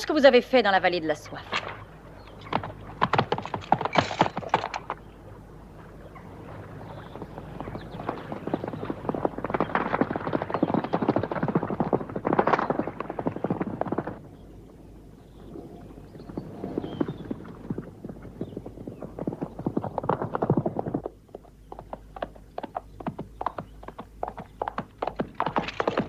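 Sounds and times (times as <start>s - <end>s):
horse hoofbeats: 1.5s - 14.5s, 15.8s - 26.0s.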